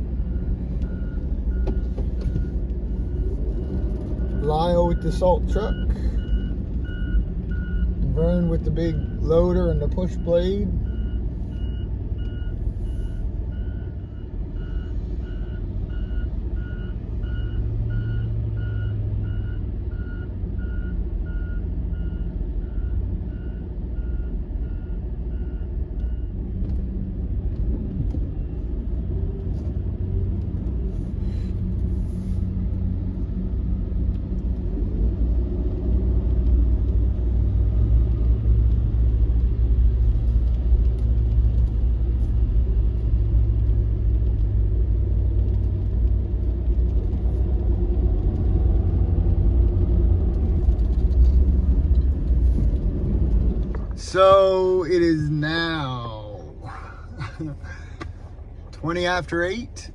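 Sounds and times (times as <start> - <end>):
big engine rumbling: 0.0 - 33.8, 34.5 - 59.9.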